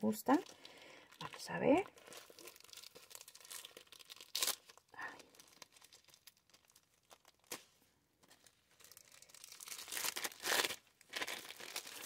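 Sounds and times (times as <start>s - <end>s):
plastic bag crinkling: 0.0s - 7.6s, 8.2s - 12.0s.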